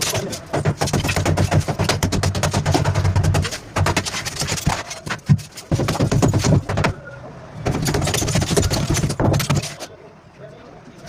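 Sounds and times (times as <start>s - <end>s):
hammering on hard material: 0.0s - 7.0s, 7.6s - 9.7s.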